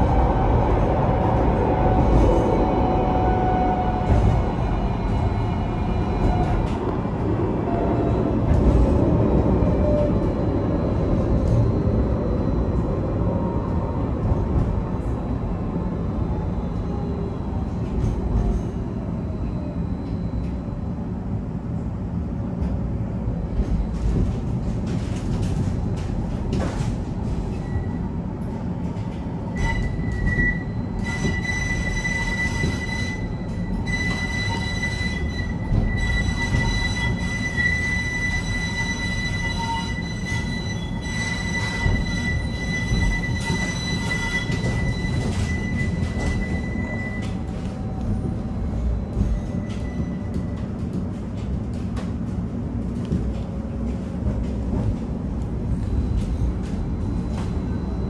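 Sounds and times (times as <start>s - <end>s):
tram rumbling: 0.0s - 58.0s.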